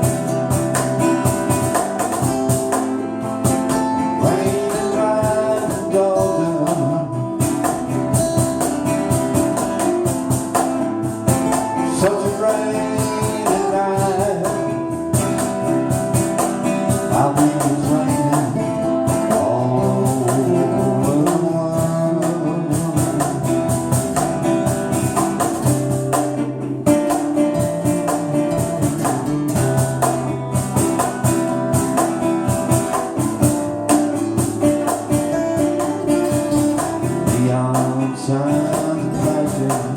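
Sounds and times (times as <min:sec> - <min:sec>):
band playing a song: 0:00.0 - 0:39.9
guitars: 0:00.0 - 0:39.9
steady beat: 0:00.0 - 0:39.9.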